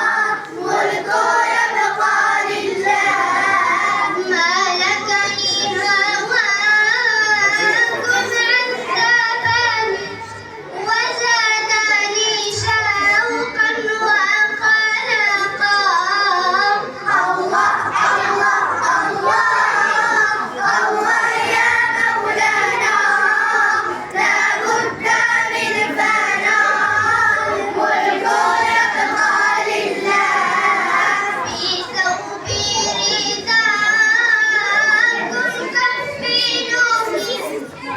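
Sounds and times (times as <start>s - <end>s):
child singing: 0.0s - 37.9s.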